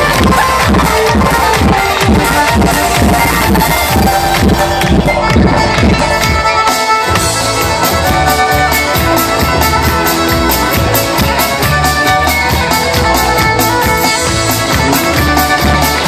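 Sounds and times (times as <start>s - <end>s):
music with steady beat: 0.0s - 16.0s.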